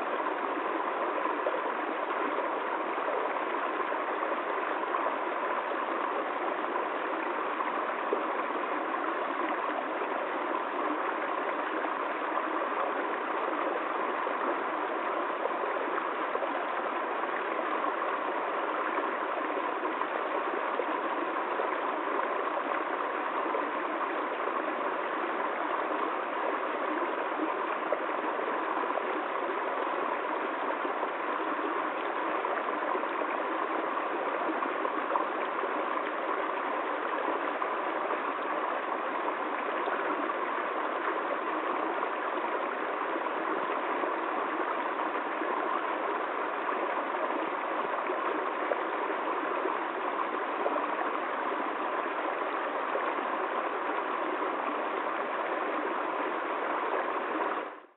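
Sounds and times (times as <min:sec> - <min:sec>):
stream babbling over rocks: 0:00.0 - 0:57.9.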